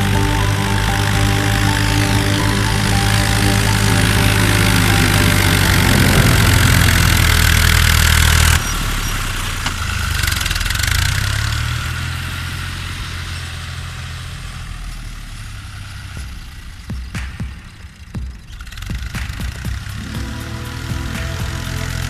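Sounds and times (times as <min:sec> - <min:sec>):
tractor diesel engine running: 0:00.0 - 0:16.8, 0:19.8 - 0:22.0.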